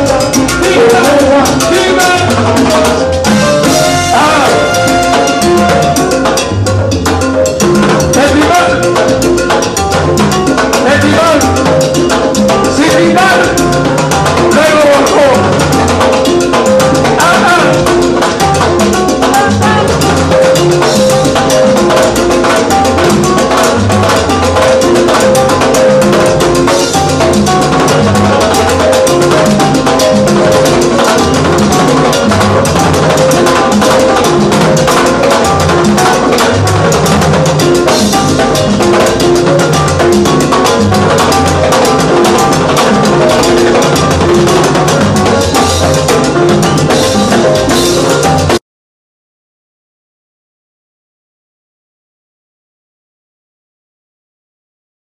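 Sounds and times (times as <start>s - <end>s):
salsa band playing: 0.0s - 48.6s
timbales and hand drums: 0.0s - 48.6s.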